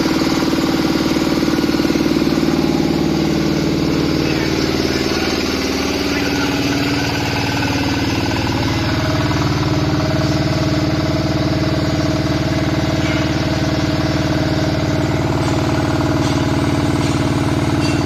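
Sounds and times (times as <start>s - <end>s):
diesel engine running steadily: 0.0s - 18.0s.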